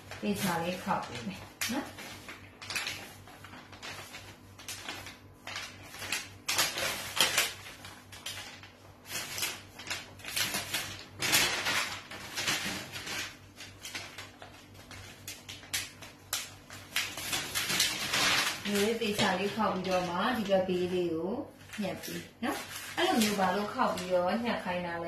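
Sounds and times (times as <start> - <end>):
paper rustling and crinkling: 0.0 - 24.8.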